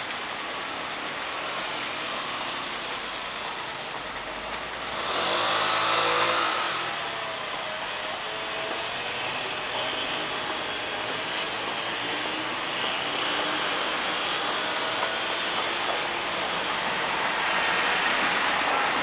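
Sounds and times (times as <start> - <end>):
distant traffic noise: 0.0 - 19.0.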